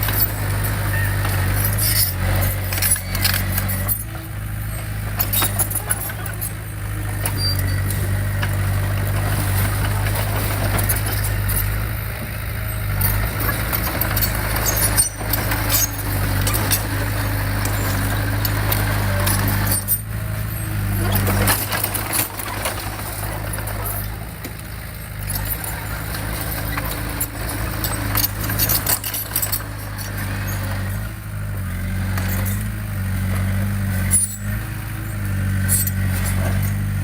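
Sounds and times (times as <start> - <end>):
clanks and rattles: 0.0 - 37.0
diesel engine running: 0.0 - 37.0.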